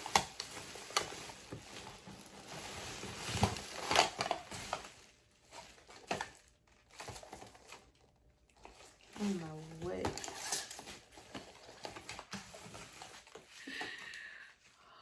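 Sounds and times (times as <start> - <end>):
plastic bags crinkling: 0.0 - 14.2.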